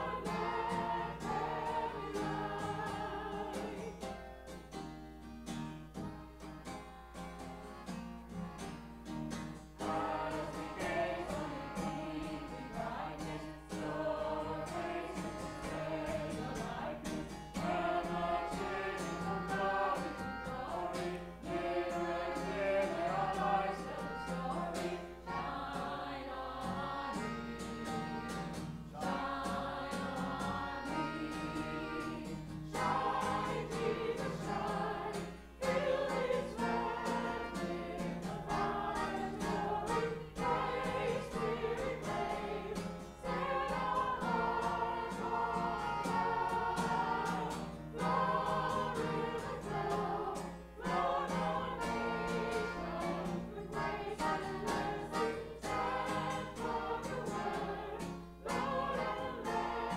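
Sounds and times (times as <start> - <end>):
mixed choir singing: 0.0 - 4.2, 9.8 - 59.9.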